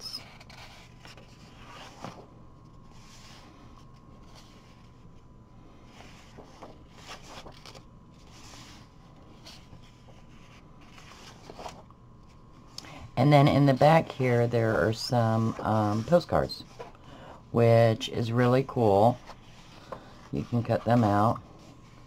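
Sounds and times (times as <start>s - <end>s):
book pages turning: 0.1s - 5.2s, 5.8s - 12.8s, 13.6s - 17.0s, 18.1s - 22.0s.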